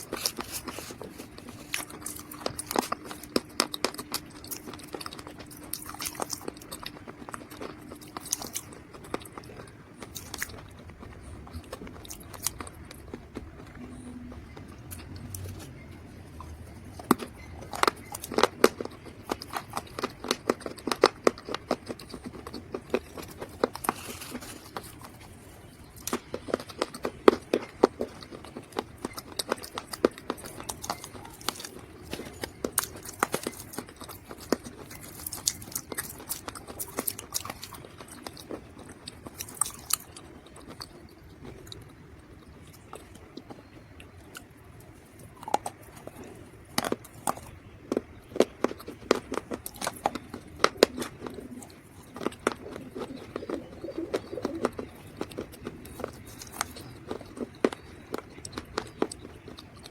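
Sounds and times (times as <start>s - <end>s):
dry mud crunching as chewed: 0.0s - 59.9s.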